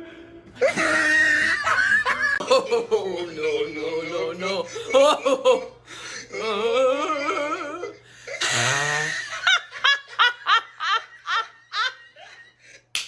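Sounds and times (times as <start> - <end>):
person laughing: 0.6 - 12.8.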